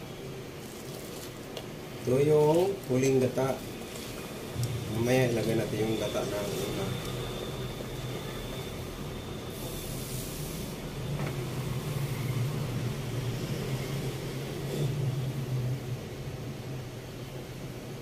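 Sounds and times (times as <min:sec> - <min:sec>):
coconut milk boiling in wok: 0:00.0 - 0:18.0.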